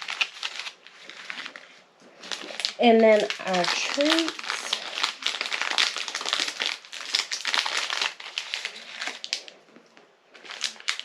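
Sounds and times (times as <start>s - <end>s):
wrappers crinkling: 0.0s - 11.0s.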